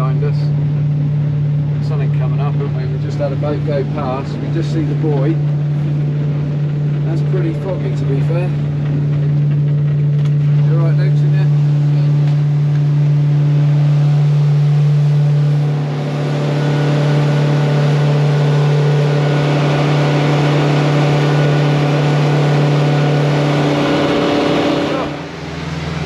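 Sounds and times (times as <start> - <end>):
outboard motor humming: 0.0 - 26.0
water and hull noise: 0.0 - 26.0.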